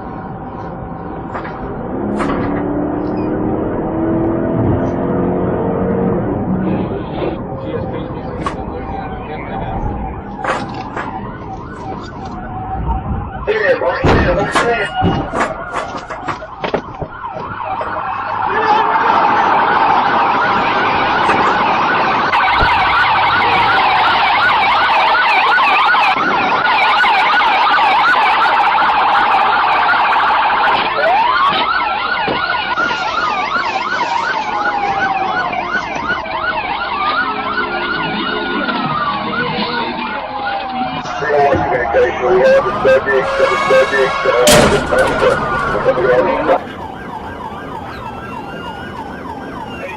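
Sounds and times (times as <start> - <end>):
police siren wail: 0.0 - 49.9
police siren yelp: 0.0 - 49.9.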